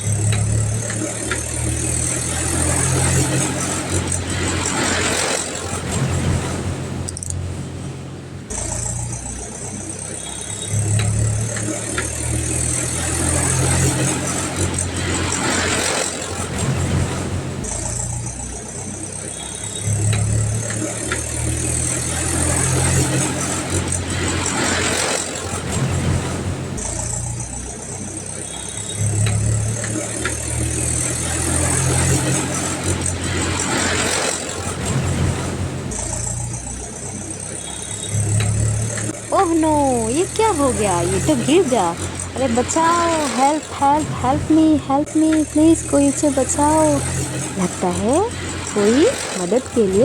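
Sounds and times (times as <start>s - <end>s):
model tractor engine hum: 0.0s - 50.0s.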